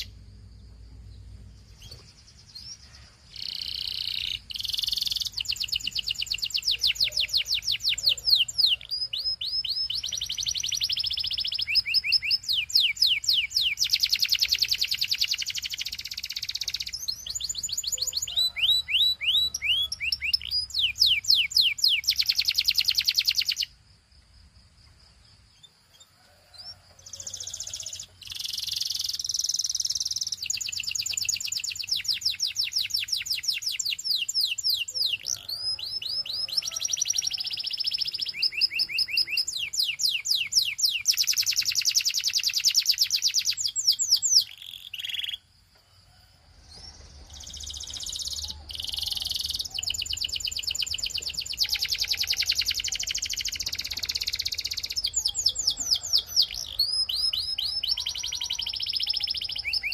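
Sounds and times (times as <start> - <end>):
canary singing trills: 0.0 - 23.8, 25.2 - 45.6, 46.6 - 59.9.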